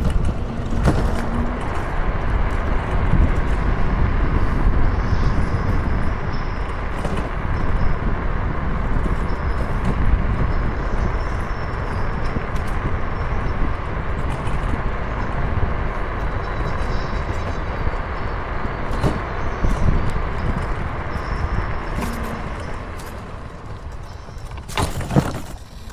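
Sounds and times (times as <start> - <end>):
wind and road noise: 0.0 - 25.9.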